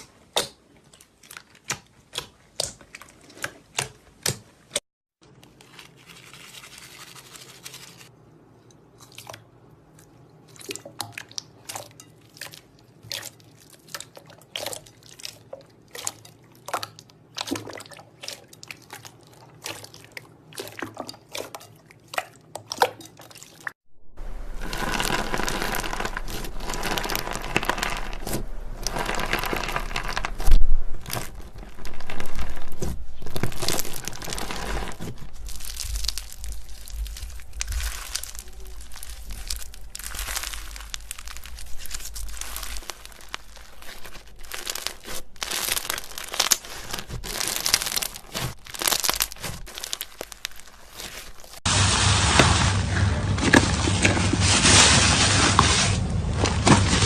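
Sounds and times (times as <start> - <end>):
crunchy slime crackling: 10.1 - 57.0.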